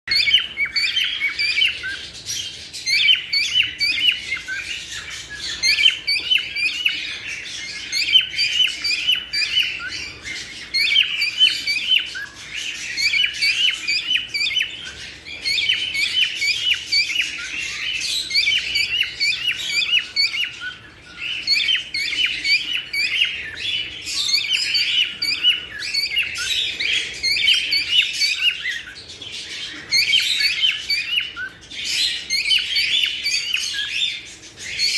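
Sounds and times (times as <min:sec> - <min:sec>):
cockatiels chirping and whistling: 0:00.1 - 0:34.9.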